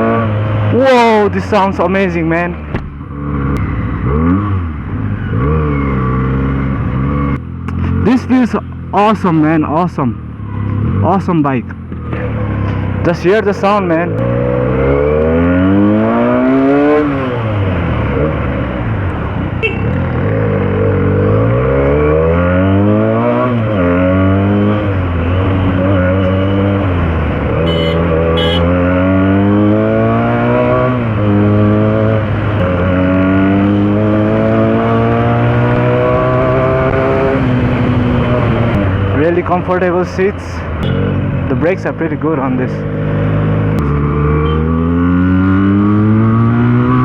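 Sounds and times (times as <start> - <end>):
motorcycle engine accelerating: 2.6 - 9.0, 10.1 - 40.0, 40.6 - 47.0.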